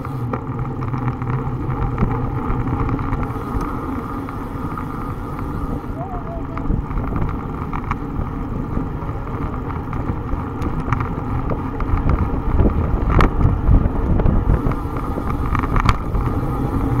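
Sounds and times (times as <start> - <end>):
bike rattling over bumps: 0.0 - 17.0
road rumble: 0.0 - 17.0
wind rushing over microphone: 0.0 - 17.0.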